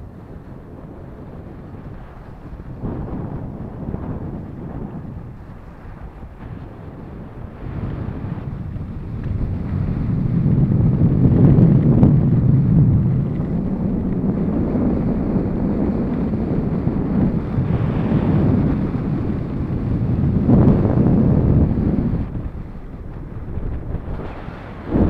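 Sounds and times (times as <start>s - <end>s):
wind buffeting microphone: 0.0s - 25.0s
skis sliding over snow: 3.8s - 25.0s.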